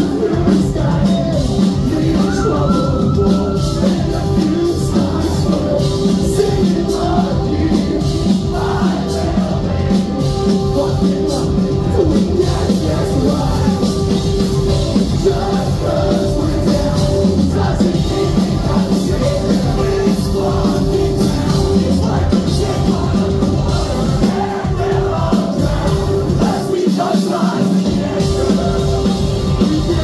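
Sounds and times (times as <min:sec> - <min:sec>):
person singing lead vocal: 0:00.0 - 0:30.0
pop-punk band playing live: 0:00.0 - 0:30.0.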